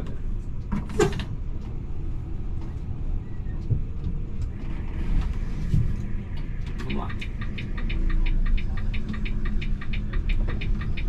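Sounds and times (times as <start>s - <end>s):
diesel engine rumbling: 1.3s - 11.0s.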